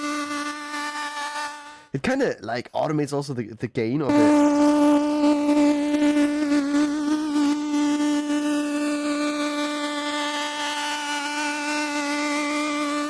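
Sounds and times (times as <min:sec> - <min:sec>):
buzzy synthesizer note: 0:00.0 - 0:02.0, 0:04.1 - 0:13.0.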